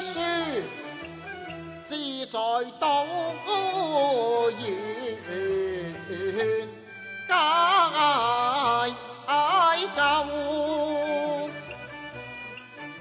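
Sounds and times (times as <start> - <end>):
opera singing: 0.0 - 0.8, 1.9 - 11.6
instrumental accompaniment: 0.0 - 13.0.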